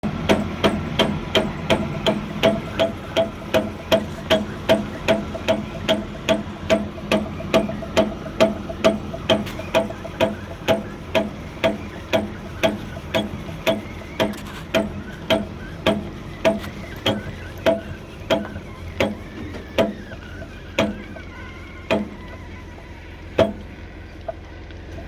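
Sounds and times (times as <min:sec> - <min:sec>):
low motor hum: 0:00.0 - 0:25.0
wood chipper clutch knocking: 0:00.0 - 0:25.0.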